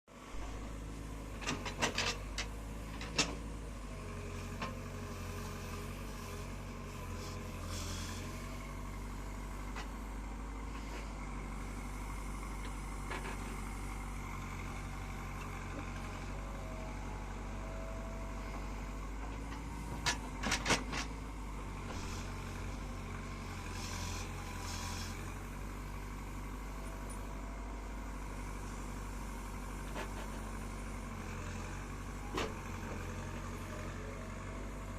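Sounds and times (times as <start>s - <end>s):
diesel engine droning: 0.1s - 34.9s.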